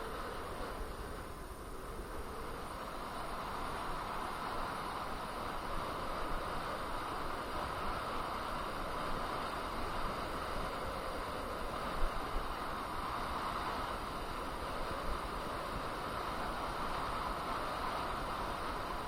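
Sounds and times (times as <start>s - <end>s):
electric unicycle riding noise: 0.0s - 19.0s
wind and tyre noise: 0.0s - 19.0s.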